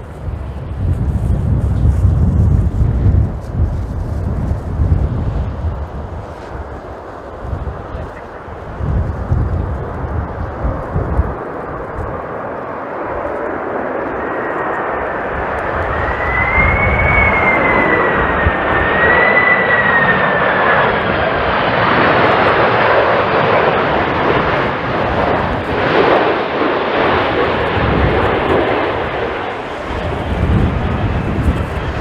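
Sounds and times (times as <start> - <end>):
high jet engine whine: 0.0 - 32.0
jet airliner passing: 0.0 - 32.0.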